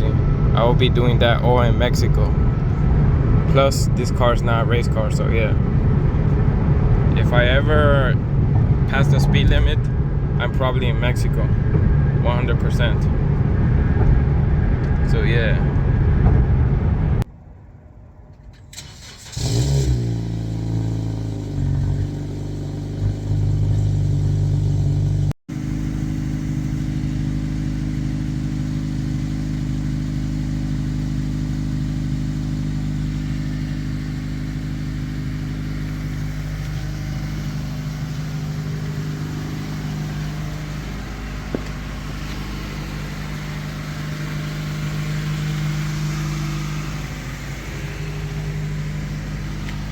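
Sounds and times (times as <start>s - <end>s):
car engine starting and idling: 0.0s - 49.9s.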